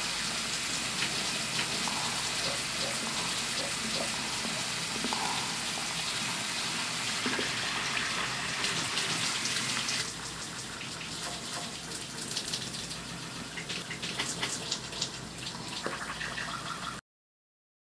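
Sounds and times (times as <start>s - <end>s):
shower spray running: 0.0s - 16.9s.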